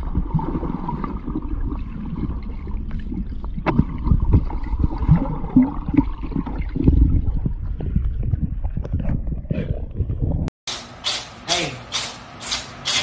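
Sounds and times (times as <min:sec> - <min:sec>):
gurgling: 0:00.0 - 0:10.5
muffled underwater water noise: 0:00.0 - 0:10.5.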